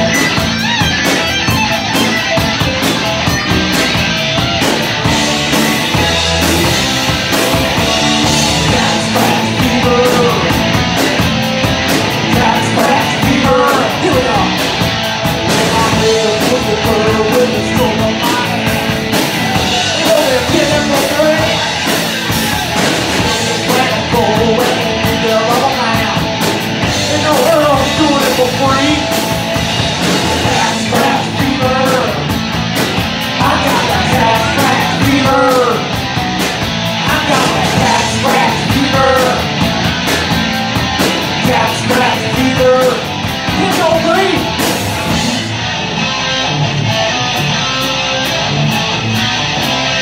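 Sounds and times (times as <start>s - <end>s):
bass guitar: 0.0s - 50.0s
distorted electric guitars: 0.0s - 50.0s
drums and cymbals: 0.0s - 50.0s.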